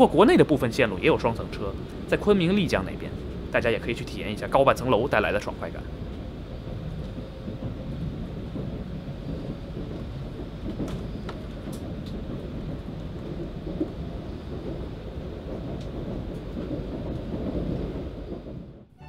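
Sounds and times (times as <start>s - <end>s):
train cabin low rumble: 0.0s - 19.0s.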